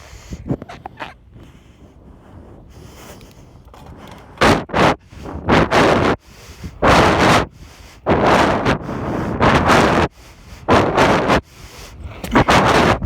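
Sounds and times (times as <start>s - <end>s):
heavy panting breaths on microphone: 0.0s - 13.0s.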